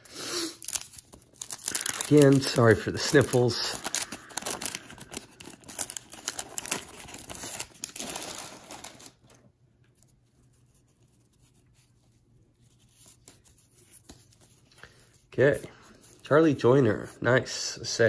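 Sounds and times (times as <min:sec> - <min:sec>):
paper wrapper crinkling and tearing: 0:00.4 - 0:15.3.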